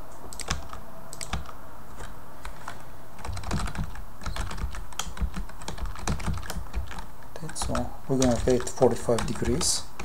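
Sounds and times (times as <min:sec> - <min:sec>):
typing on computer keyboard: 0:00.3 - 0:10.0.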